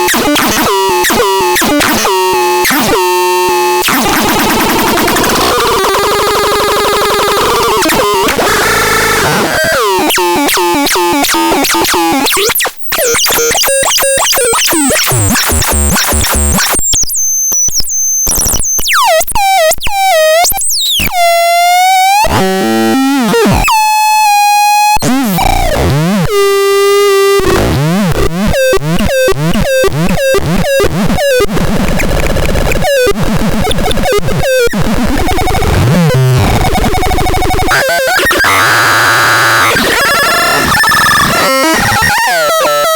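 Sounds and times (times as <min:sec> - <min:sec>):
harsh noisy synthesizer: 0:00.0 - 0:18.7, 0:20.7 - 0:42.9.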